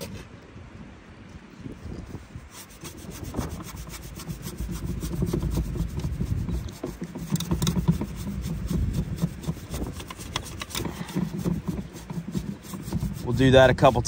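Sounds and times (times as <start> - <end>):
brush scrubbing plastic: 2.0 - 14.0.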